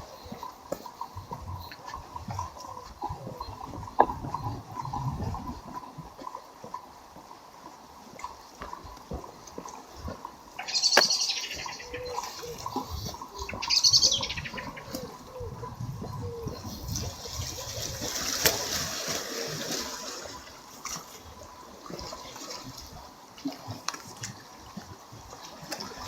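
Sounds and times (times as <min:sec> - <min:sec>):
sea waves washing against seawall: 0:00.0 - 0:26.0
waves splashing: 0:00.0 - 0:26.0.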